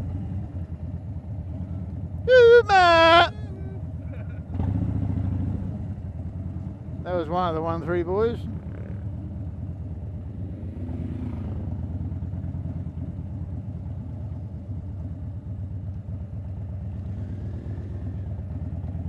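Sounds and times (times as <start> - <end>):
motorcycle engine running: 2.8 - 19.0.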